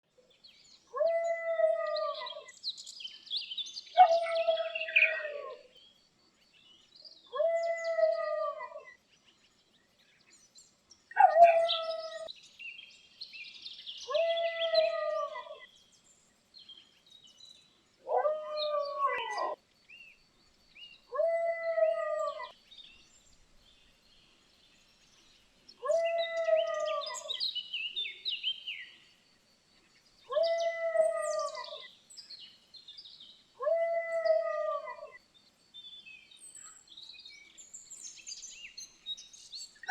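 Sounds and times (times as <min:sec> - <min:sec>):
faint birds chirping: 0:00.1 - 0:39.9.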